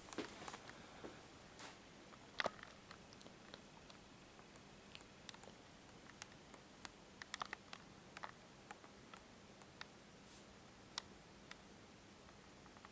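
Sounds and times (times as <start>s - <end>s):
faint low hum: 0.0s - 12.9s.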